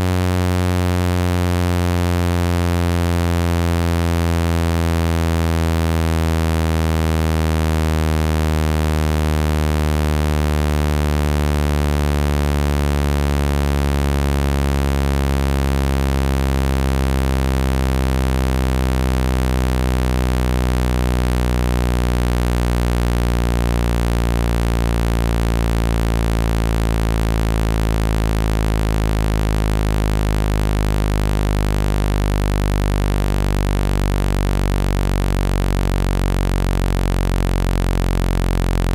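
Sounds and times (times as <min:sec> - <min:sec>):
low buzzy synthesised tone: 0:00.0 - 0:38.9.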